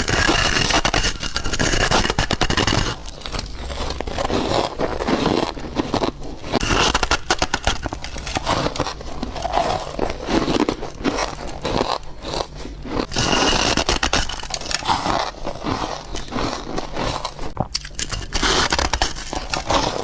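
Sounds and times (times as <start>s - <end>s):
ice being chewed: 0.0s - 20.0s.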